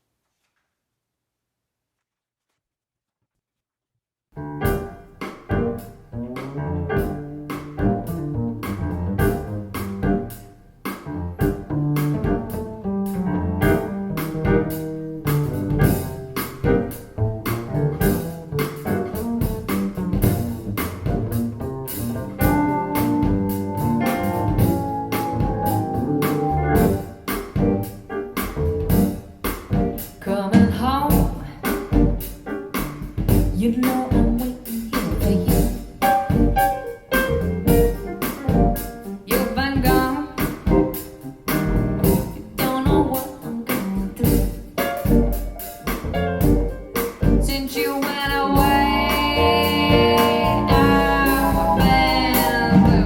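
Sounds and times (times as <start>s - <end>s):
jazz-pop music over speakers: 4.4s - 53.0s.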